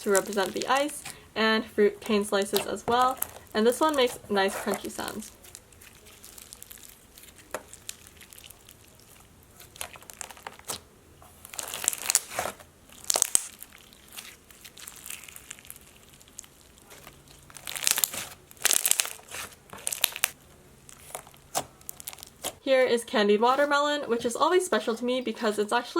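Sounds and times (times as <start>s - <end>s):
crunchy slime crackling: 0.0s - 22.6s
slime squishing: 0.0s - 22.6s.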